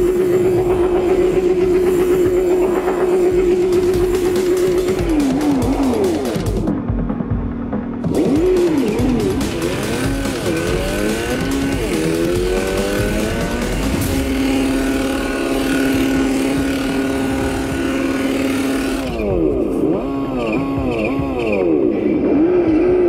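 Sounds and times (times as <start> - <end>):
rc car engine revving: 0.0 - 6.7, 8.0 - 23.0.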